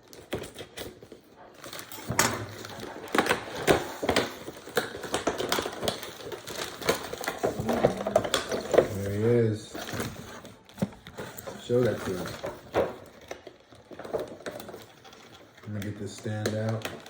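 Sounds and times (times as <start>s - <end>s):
packaging clicks and crinkles: 0.0s - 17.0s.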